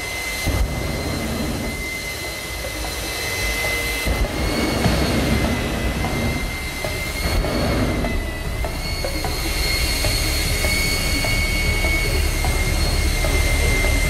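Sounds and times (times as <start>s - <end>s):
turbine engine roaring with whine: 0.0s - 14.0s
low exhaust thumps: 0.4s - 14.0s.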